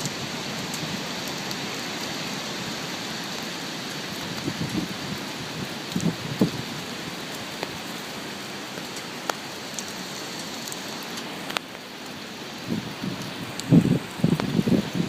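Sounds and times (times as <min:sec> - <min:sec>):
heavy rain: 0:00.0 - 0:15.0
sharp raindrops striking: 0:00.0 - 0:15.0.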